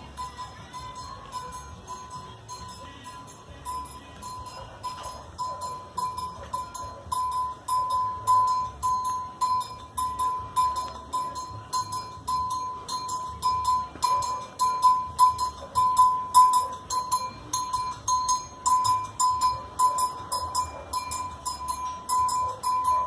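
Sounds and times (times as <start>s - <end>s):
drums: 0.0s - 23.0s
metal bell struck: 0.0s - 23.0s.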